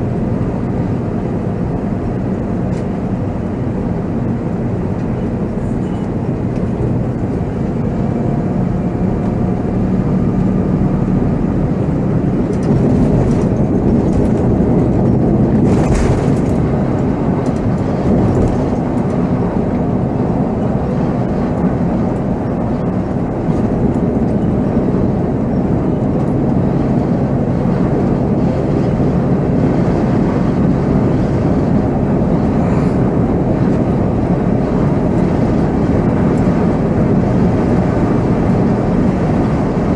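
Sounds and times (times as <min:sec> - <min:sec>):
diesel coach engine drone: 0:00.0 - 0:39.9.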